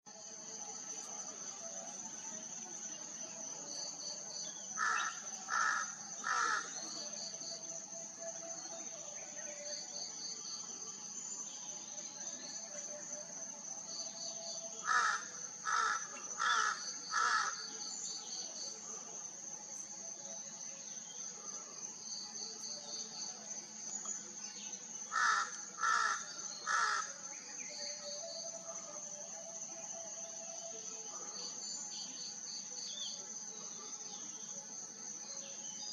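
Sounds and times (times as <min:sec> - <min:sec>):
high insect drone: 0:00.1 - 0:35.9.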